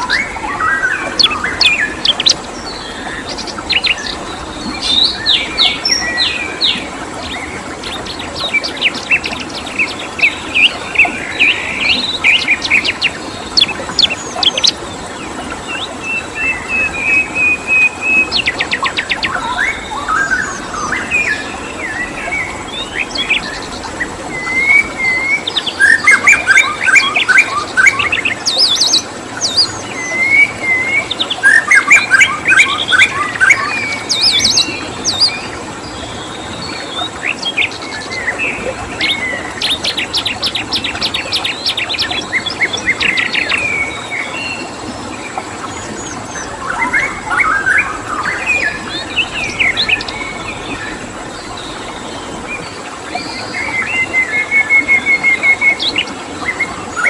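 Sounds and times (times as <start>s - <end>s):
running water rushing: 0.0s - 57.0s
songbirds chirping and singing: 0.0s - 57.0s.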